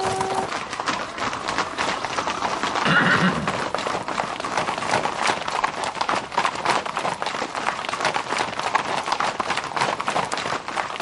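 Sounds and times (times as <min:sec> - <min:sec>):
horses' hooves clattering: 0:00.0 - 0:11.0.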